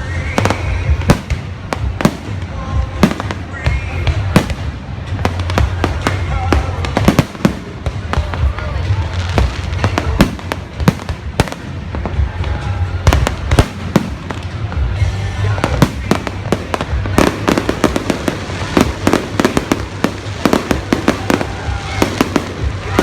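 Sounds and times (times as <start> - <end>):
fireworks bangs and crackles: 0.0 - 23.0
deep rumbling fireworks booms: 0.2 - 23.0.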